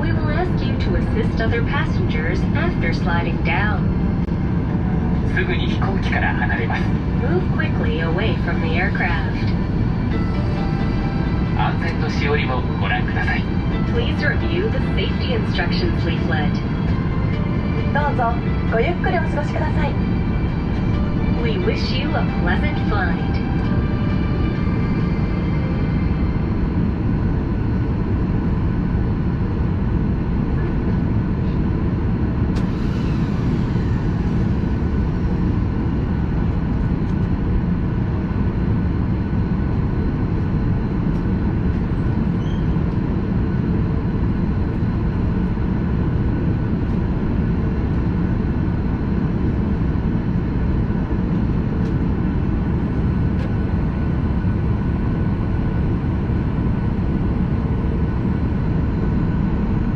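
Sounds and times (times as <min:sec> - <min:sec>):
faint steady whine: 0:00.0 - 0:59.9
jet cabin engine rumble: 0:00.0 - 0:59.9.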